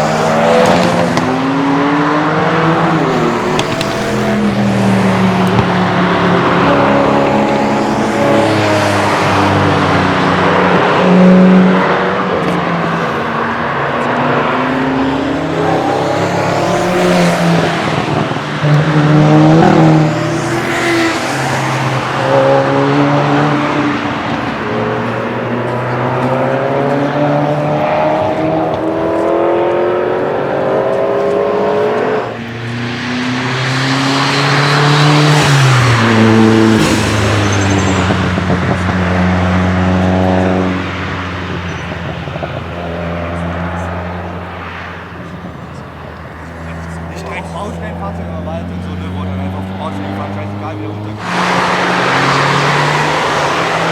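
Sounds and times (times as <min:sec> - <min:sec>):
cars driving past revving: 0:00.0 - 0:53.9.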